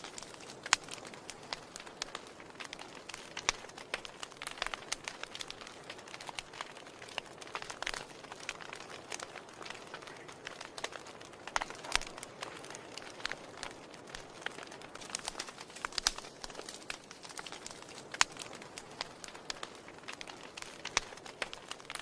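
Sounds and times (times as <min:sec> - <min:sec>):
soft fire hiss: 0:00.0 - 0:22.0
wood fire crackling and popping: 0:00.0 - 0:22.0.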